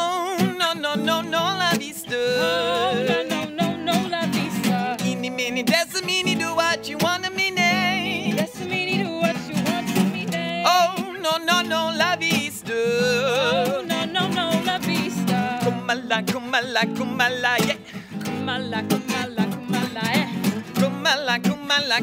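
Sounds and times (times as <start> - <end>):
acoustic guitars strummed: 0.0 - 22.0
man and woman singing: 0.0 - 22.0.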